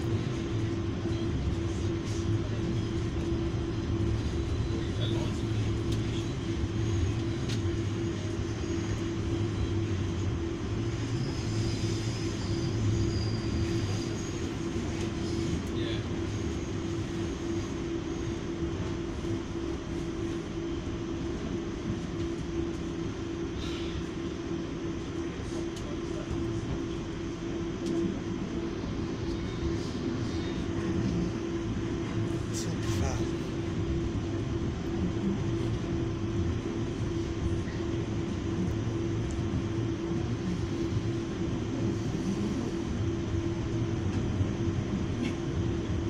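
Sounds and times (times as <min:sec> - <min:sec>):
train interior hum: 0:00.0 - 0:46.0
train low rumble: 0:00.0 - 0:46.0.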